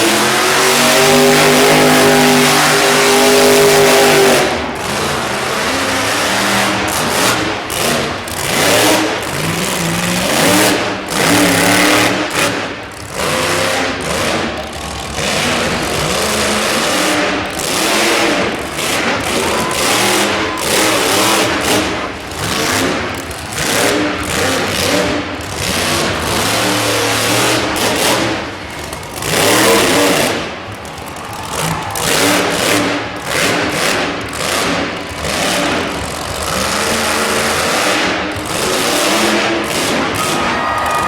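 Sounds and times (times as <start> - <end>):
truck engine revving hard: 0.0 - 41.0.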